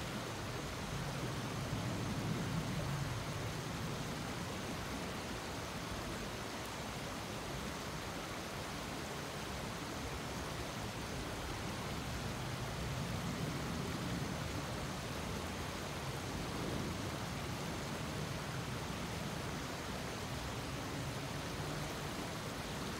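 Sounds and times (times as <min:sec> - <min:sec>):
river water rushing over rocks: 0:00.0 - 0:22.9.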